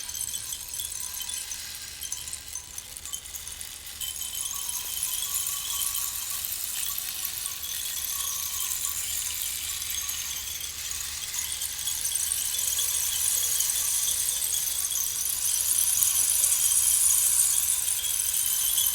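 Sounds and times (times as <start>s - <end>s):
rainstick fill trickling: 0.0s - 18.9s.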